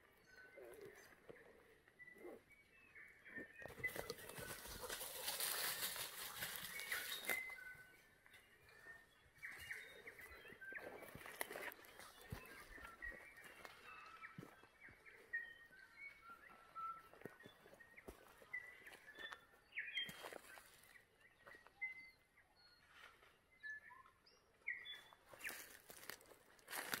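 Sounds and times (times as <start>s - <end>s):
faint birdsong: 0.0s - 27.0s.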